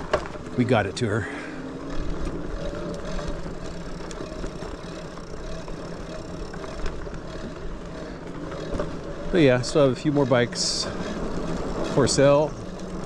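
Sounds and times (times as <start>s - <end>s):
bike clicks and rattles: 0.0s - 13.0s
electric motor hum: 0.0s - 13.0s.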